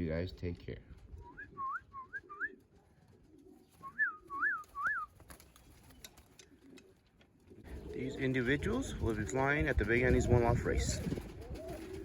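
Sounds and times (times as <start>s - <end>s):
pigeons cooing: 1.1s - 12.0s.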